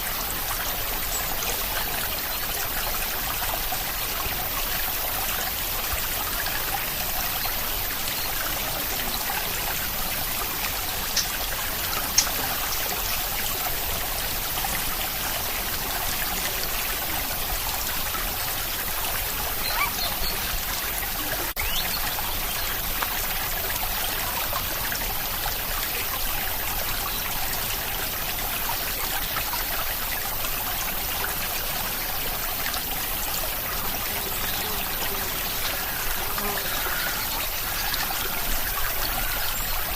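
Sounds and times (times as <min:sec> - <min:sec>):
sharp water drips: 0:00.0 - 0:39.9
steady rain: 0:00.0 - 0:39.9
water trickling: 0:00.0 - 0:39.9.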